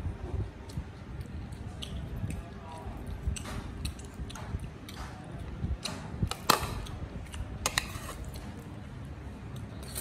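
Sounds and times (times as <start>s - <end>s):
chewing with clicks and smacks: 0.5s - 8.8s.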